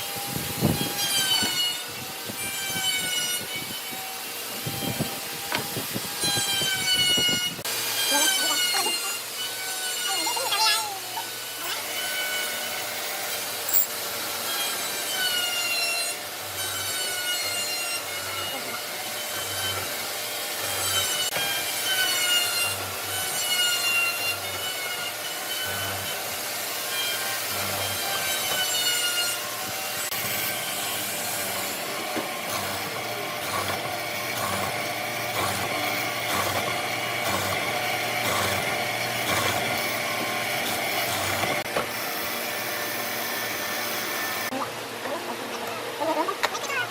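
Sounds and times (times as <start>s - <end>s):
hand saw cutting wood: 0.0s - 46.8s.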